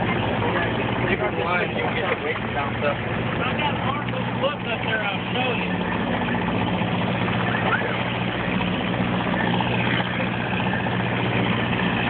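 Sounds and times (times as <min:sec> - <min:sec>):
boat engine idling: 0:00.0 - 0:12.0
water noise: 0:00.0 - 0:12.0.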